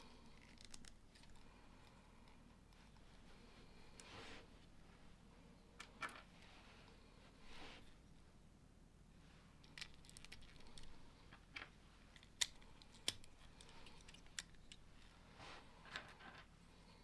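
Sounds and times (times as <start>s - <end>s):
soft rustles of plastic pieces: 0.0s - 8.2s, 9.2s - 17.0s.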